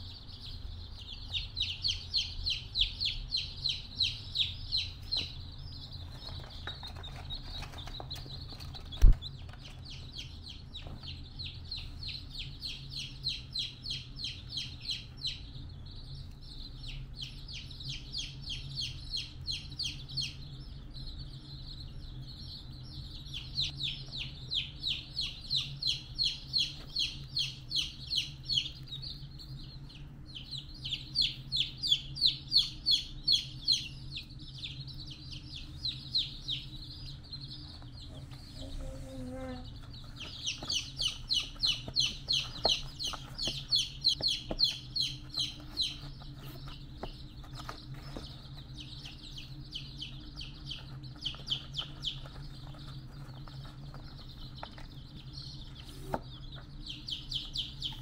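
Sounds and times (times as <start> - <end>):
high-pitched peeping chirps: 0.0 - 58.0.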